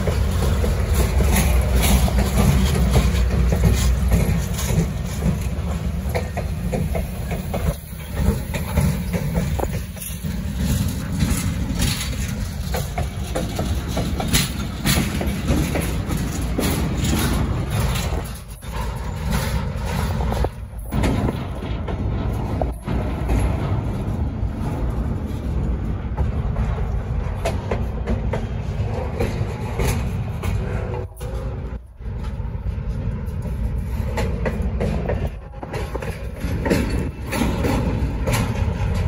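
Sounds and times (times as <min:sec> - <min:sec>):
locomotive engines rumbling: 0:00.0 - 0:39.0
train wheels clicking on rails: 0:00.0 - 0:39.0.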